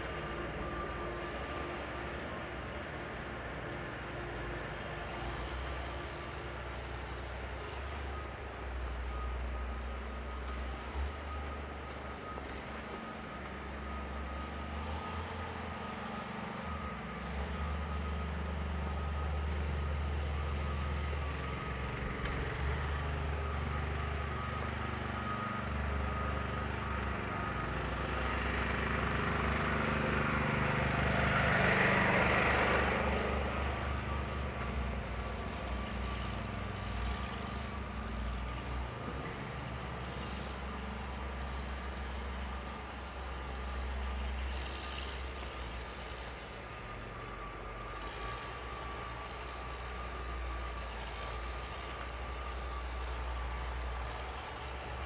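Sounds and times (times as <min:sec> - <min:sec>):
low traffic rumble: 0:00.0 - 0:55.0
vehicle passing by: 0:10.6 - 0:55.0.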